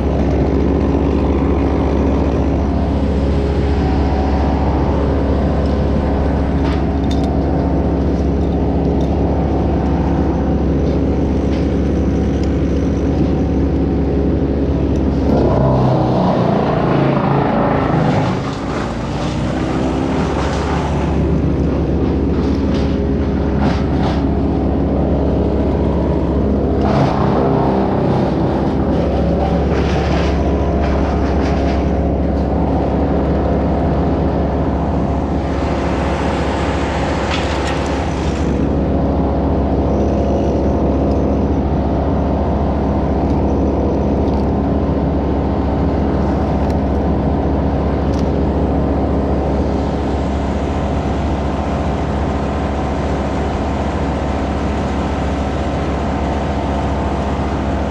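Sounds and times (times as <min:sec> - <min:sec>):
large engine running: 0:00.0 - 0:57.9.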